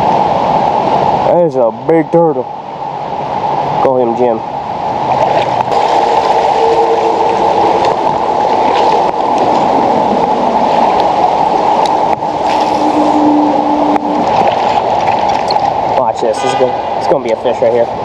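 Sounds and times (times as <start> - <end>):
river water rushing and gurgling: 0.0 - 18.0.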